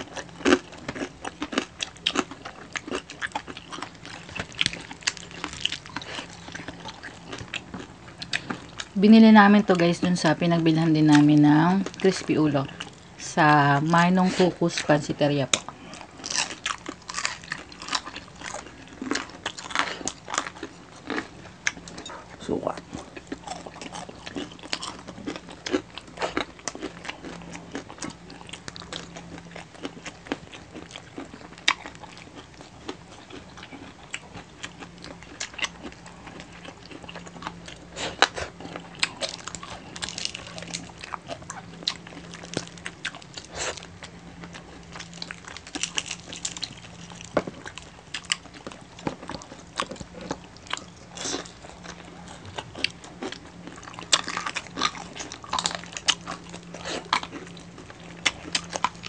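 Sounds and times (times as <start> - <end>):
crunchy food being chewed: 0.0 - 59.0
steady low hum: 0.0 - 59.0.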